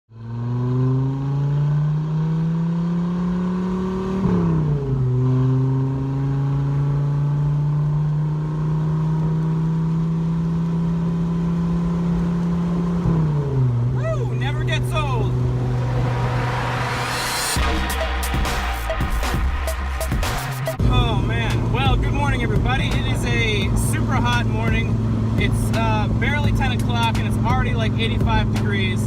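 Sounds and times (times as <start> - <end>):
car engine accelerating: 0.1 - 29.0.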